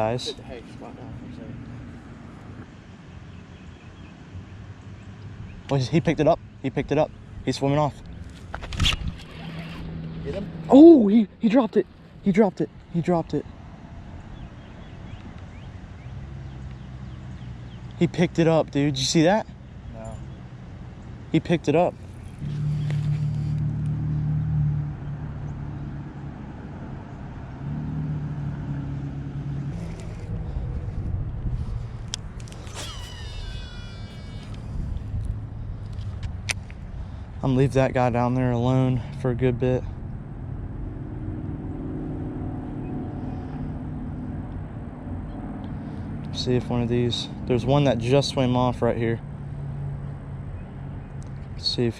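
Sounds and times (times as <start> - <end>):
vehicle engine humming: 0.0 - 51.9
low outdoor rumble: 5.6 - 51.9.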